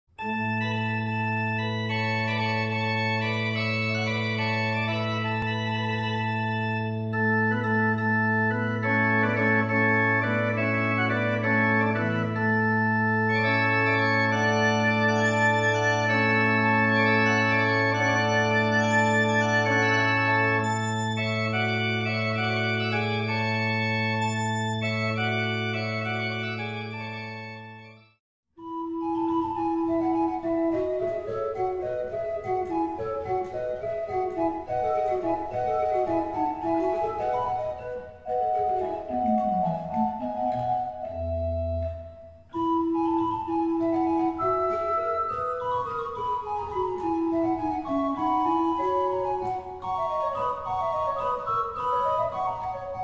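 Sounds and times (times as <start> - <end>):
pipe organ playing: 0.2 - 53.0.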